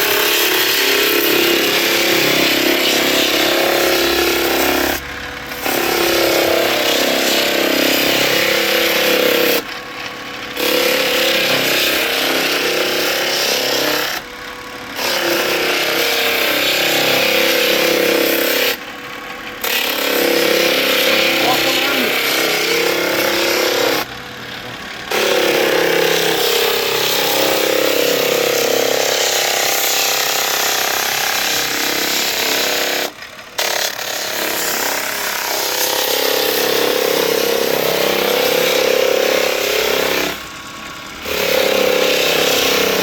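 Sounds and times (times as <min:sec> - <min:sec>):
floor sander running: 0:00.0 - 0:43.0.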